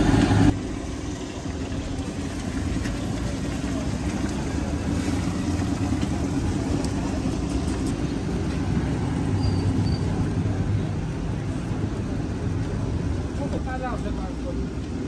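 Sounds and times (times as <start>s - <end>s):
busy street rumble: 0.0s - 15.0s.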